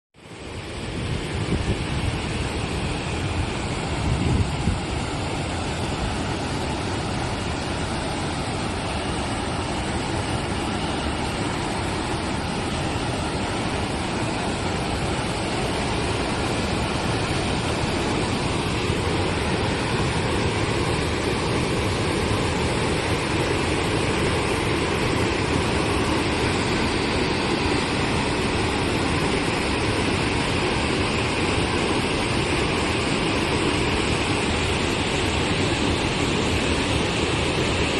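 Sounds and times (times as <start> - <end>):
stream water rushing: 0.2 - 37.9.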